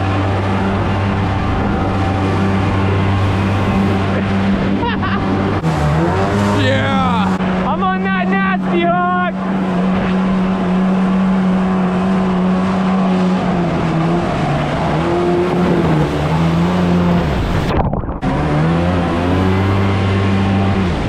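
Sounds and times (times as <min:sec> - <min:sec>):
jet ski engine revving: 0:00.0 - 0:21.0.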